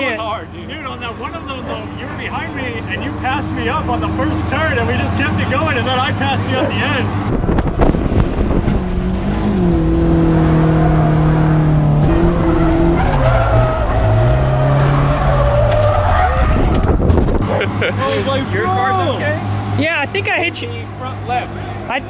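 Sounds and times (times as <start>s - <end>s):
tyres skidding: 0.0s - 22.0s
car engine revving high: 0.8s - 21.9s.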